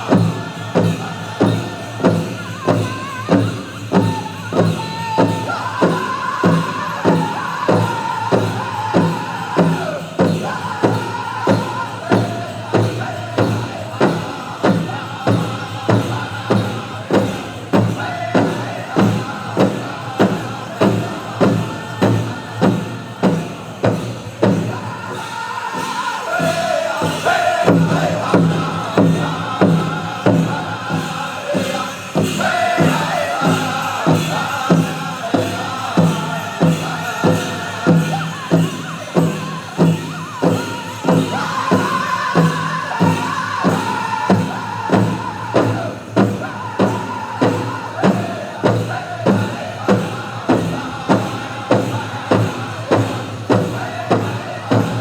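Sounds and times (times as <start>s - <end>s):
big drum beating: 0.0s - 55.0s
men singing in unison: 0.0s - 55.0s.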